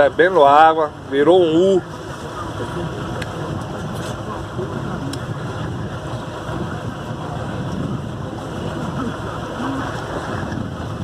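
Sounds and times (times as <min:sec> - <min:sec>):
choppy sea: 0:00.0 - 0:11.0
wind: 0:00.0 - 0:11.0
wind noise on microphone: 0:00.0 - 0:11.0.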